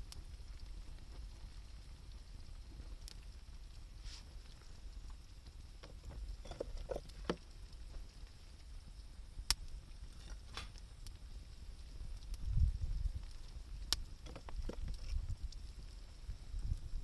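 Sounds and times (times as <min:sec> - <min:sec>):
campfire crackling and popping: 0:00.0 - 0:17.0
low steady rumble: 0:00.0 - 0:17.0
rain: 0:00.0 - 0:17.0.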